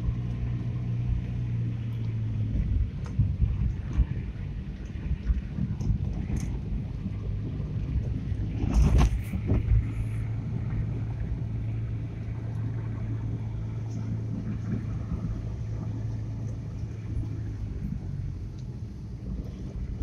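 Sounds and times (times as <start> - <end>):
car engine hum: 0.0 - 20.0
tyre and road rumble: 0.0 - 20.0.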